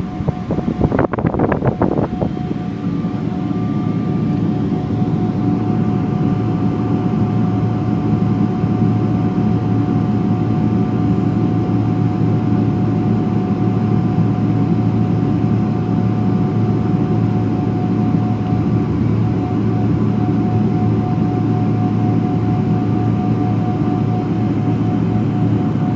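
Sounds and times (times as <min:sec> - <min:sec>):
jet engines rumbling and whining: 0:00.0 - 0:25.9.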